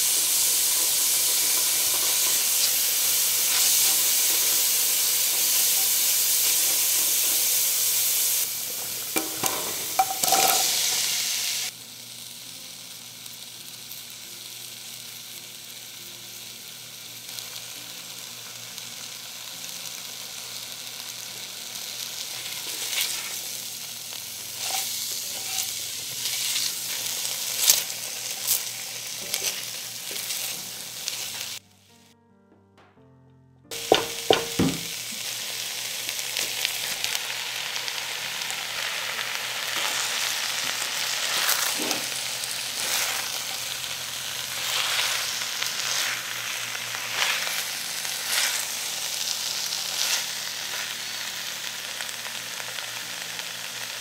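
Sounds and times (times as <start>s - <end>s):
food sizzling in hot oil: 0.0s - 31.6s, 33.7s - 54.0s.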